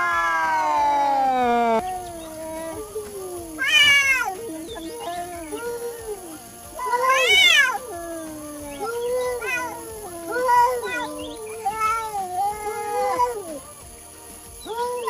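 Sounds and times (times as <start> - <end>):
cat meowing: 0.0 - 13.7, 14.7 - 15.0.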